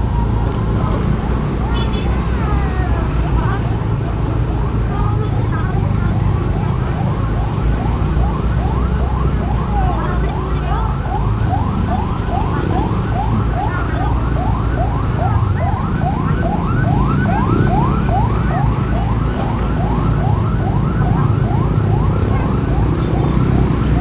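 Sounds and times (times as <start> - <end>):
motorcycle rumbling: 0.0 - 24.0
vehicle siren wailing: 0.0 - 24.0
wind: 0.0 - 24.0.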